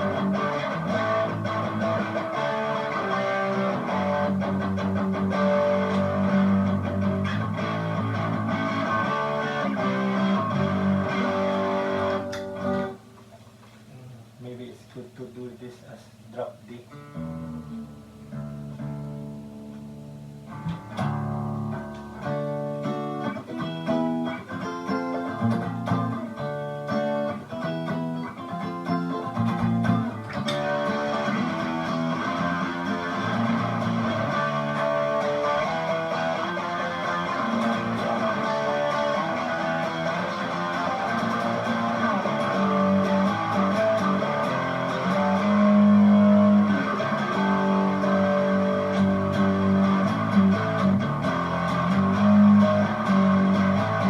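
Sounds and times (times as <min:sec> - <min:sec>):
distorted electric guitar chords: 0:00.0 - 0:13.2, 0:16.9 - 0:54.0
sustained distorted guitar playing: 0:00.0 - 0:13.3, 0:16.9 - 0:54.0.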